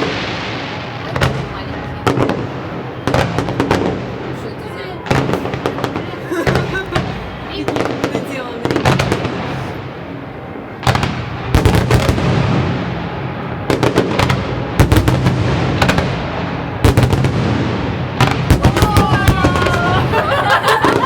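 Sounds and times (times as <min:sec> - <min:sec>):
fireworks bursting with sharp bangs: 0:00.0 - 0:10.1, 0:10.8 - 0:21.0.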